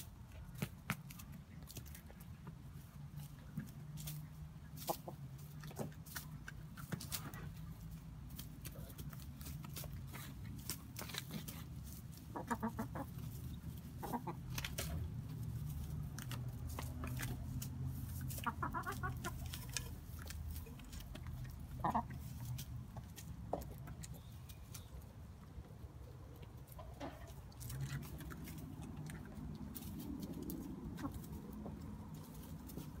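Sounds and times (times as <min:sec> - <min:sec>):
hens pecking taps: 0:00.2 - 0:33.0
hens clucking: 0:01.0 - 0:33.0.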